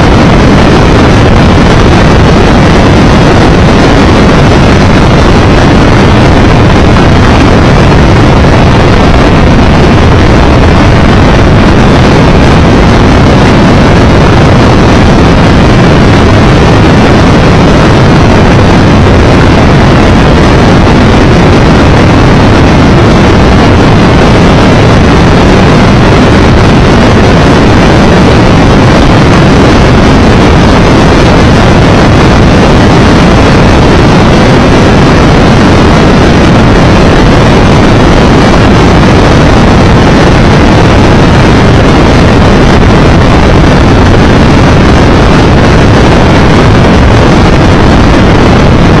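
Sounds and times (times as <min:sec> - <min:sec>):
motorcycle road rush: 0:00.0 - 0:49.0.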